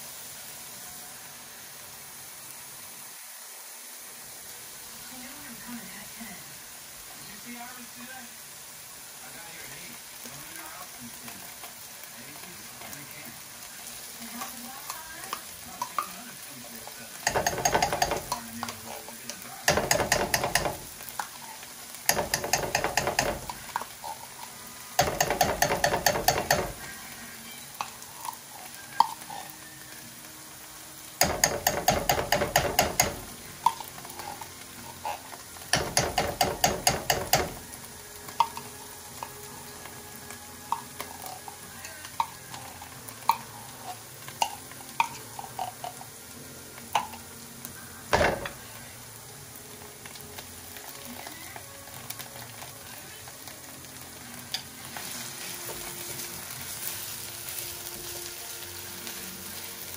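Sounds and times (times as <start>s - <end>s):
garlic sizzling in oil: 0.0s - 59.9s
hot oil popping: 8.4s - 59.9s.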